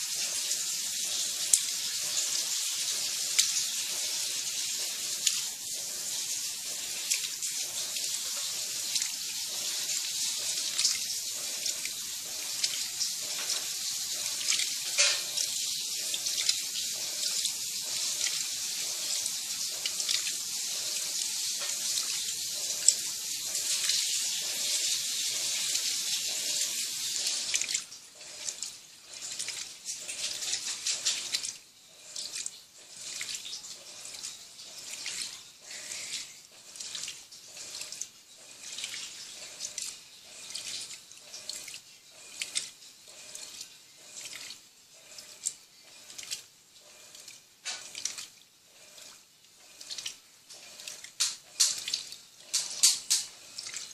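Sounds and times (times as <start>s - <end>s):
washing machine water churning: 0.0s - 53.9s.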